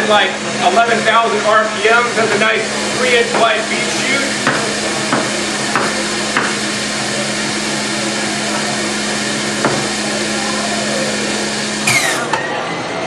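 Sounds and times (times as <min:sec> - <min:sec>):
juicer running: 0:00.0 - 0:13.0.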